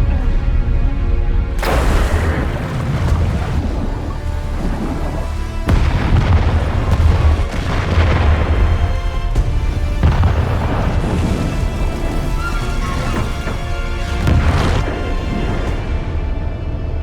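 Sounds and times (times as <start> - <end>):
continuous low rumble: 0.0 - 17.0
dramatic film score: 0.0 - 17.0
deep booming explosions: 1.6 - 17.0.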